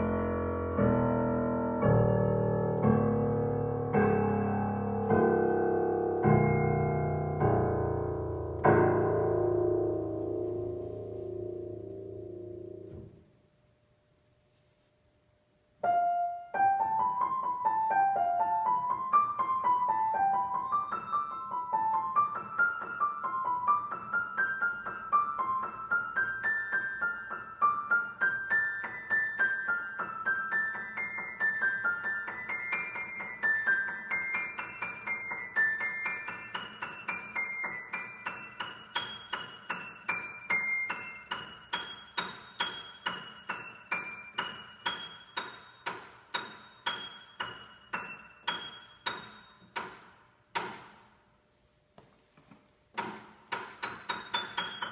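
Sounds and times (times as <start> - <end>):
grand piano playing: 0.0 - 13.3, 15.8 - 51.2, 52.9 - 54.9.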